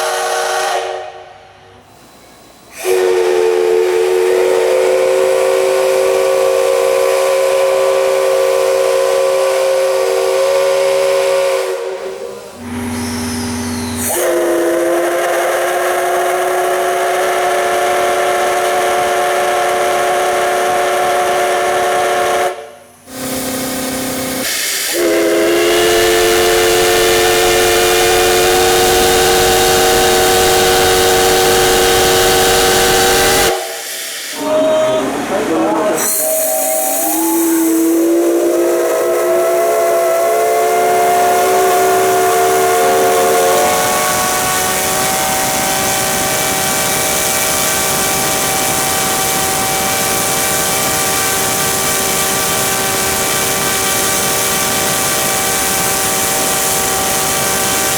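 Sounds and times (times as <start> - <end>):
steam hissing: 0.0 - 57.9
steam locomotive whistle blasts: 0.0 - 57.9.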